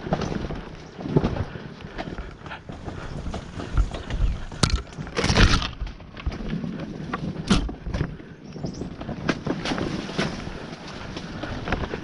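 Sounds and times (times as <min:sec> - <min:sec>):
bike jolting over ruts: 0:00.0 - 0:12.0.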